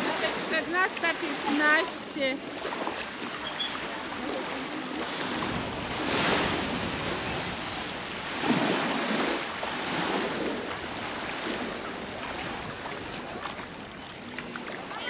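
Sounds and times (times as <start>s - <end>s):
surf washing onto beach: 0.0s - 15.0s
wind on microphone: 2.6s - 15.0s.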